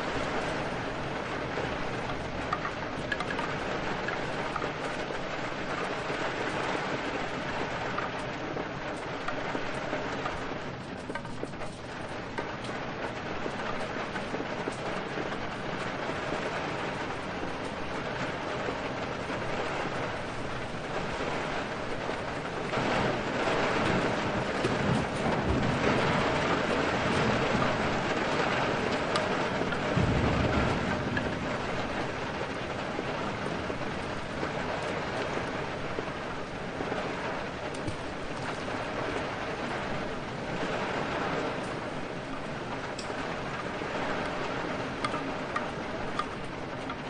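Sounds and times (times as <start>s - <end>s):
heavy rain: 0.0s - 47.0s
wind: 0.0s - 47.0s.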